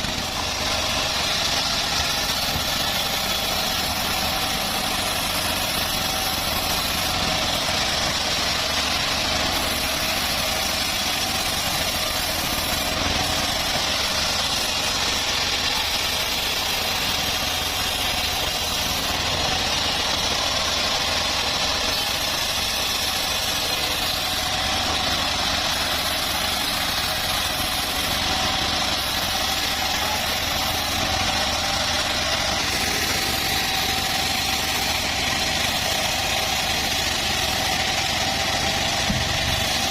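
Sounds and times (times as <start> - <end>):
sawmill engine drone: 0.0 - 39.9.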